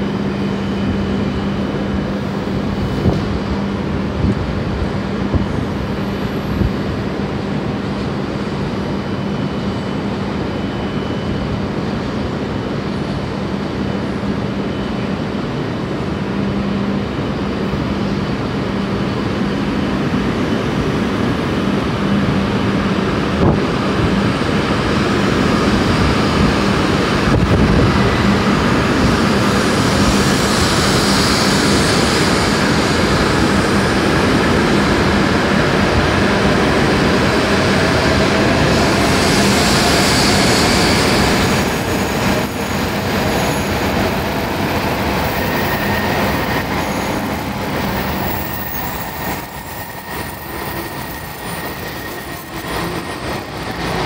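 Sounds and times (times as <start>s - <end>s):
high thin train squeal: 0.0s - 4.1s, 5.0s - 54.0s
train rumbling past: 0.0s - 54.0s.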